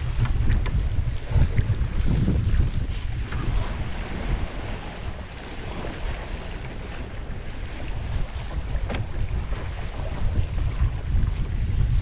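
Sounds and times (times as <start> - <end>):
choppy water slapping hull: 0.0 - 12.0
wind buffeting microphone: 0.0 - 12.0.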